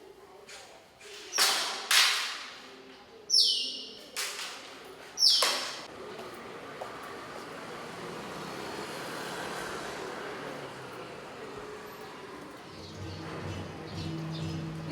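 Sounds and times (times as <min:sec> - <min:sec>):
background hubbub: 0:00.0 - 0:14.9.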